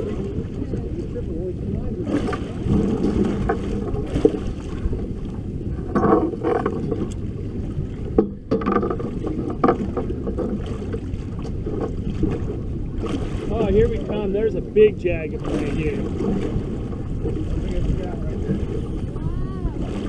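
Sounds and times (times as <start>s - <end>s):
wind and water rumble: 0.0s - 20.0s.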